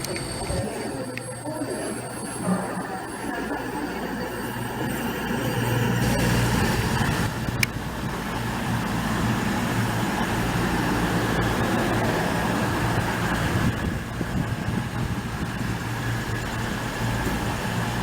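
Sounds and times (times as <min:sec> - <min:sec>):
train humming and rumbling: 0:00.0 - 0:18.0.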